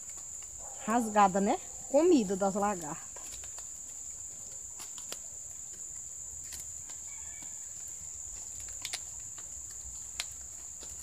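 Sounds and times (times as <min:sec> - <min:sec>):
palm leaf strips crackling: 0:00.0 - 0:11.0.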